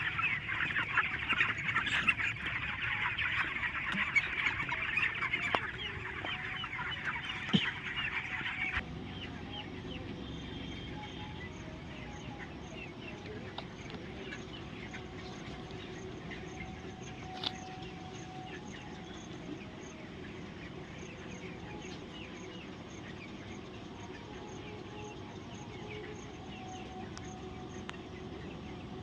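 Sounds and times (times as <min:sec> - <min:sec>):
chickens chirping and snicking: 0:00.0 - 0:29.0.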